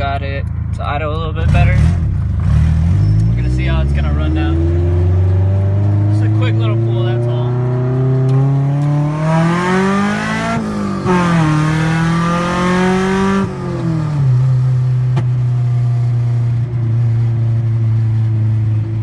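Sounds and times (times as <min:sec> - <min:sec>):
car engine accelerating hard: 0:01.4 - 0:19.0.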